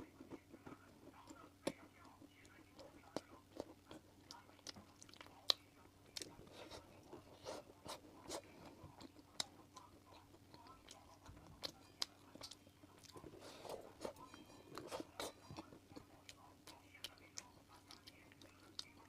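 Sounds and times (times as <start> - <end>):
close-up chewing: 0.0 - 19.0.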